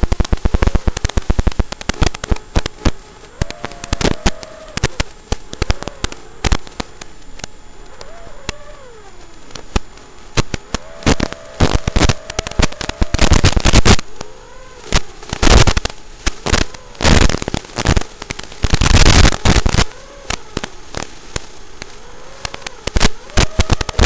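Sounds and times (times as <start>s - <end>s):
crackling radio static: 0.0s - 24.0s.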